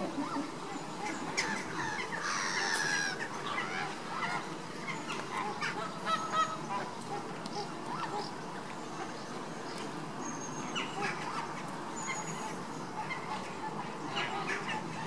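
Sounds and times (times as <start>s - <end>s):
flamingos honking: 0.0s - 9.3s, 10.7s - 15.0s.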